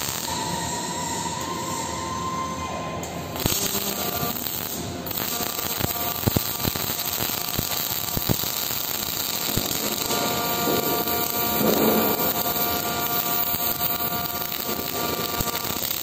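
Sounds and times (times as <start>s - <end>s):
sharp welding pops: 0.0s - 0.4s, 3.3s - 16.0s
welding arc crackling sizzle: 0.0s - 16.0s.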